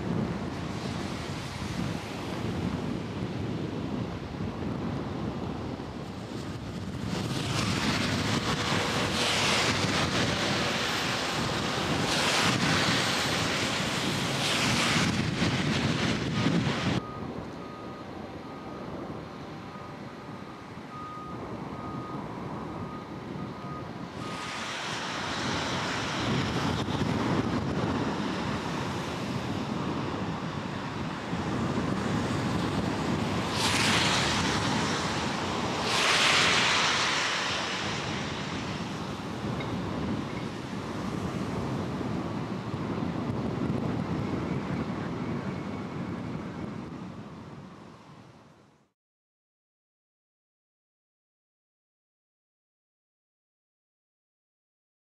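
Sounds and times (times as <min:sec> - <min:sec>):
wind buffeting microphone: 0:00.0 - 0:48.6.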